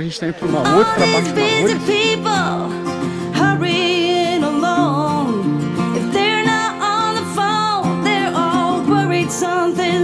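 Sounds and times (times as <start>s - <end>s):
country song with acoustic guitar: 0.4s - 10.0s.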